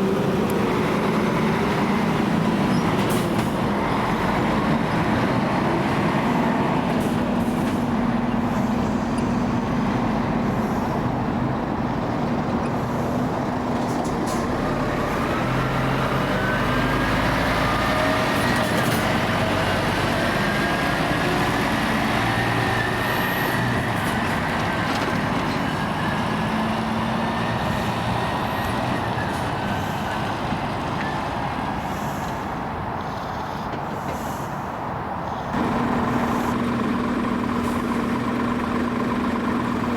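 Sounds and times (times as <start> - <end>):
heavy lorry engines running: 0.0 - 39.9
motorway traffic noise: 0.0 - 39.9.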